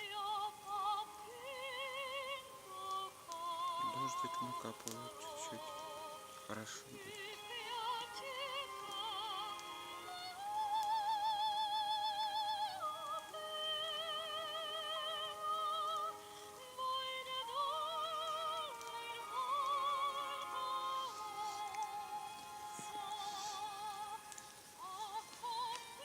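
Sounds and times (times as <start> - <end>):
girl singing operatically: 0.0 - 6.4, 7.0 - 26.0.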